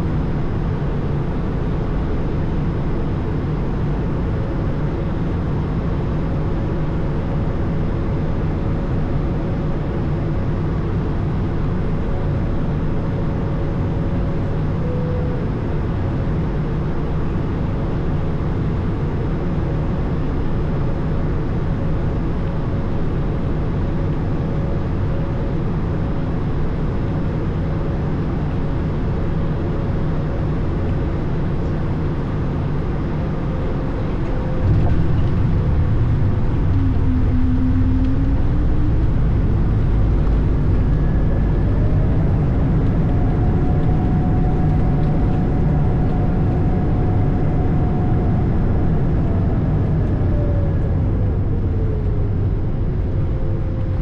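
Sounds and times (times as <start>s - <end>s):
aircraft cabin engine rumble: 0.0s - 54.0s
faint engine whine: 0.0s - 54.0s.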